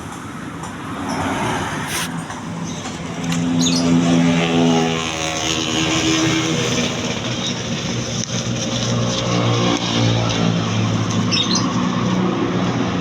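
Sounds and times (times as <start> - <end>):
two-stroke motorcycle engine revving: 1.8 - 13.0.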